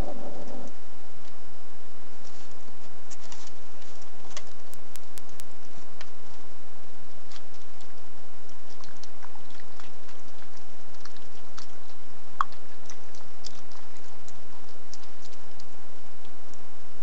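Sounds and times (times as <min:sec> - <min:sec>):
animal eating clicks and ticks: 0:02.2 - 0:16.7.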